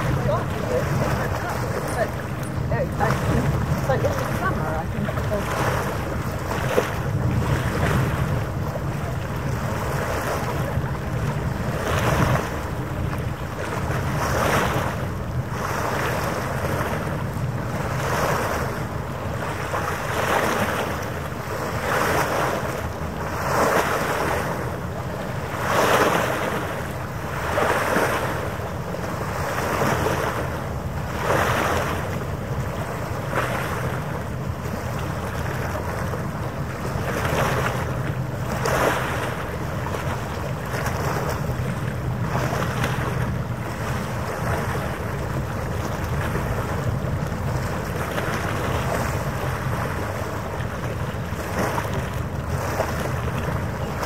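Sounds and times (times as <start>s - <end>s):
steady low rumble: 0.0s - 21.9s, 22.5s - 54.0s
water lapping in small waves: 0.0s - 54.0s
wind on microphone: 0.0s - 54.0s.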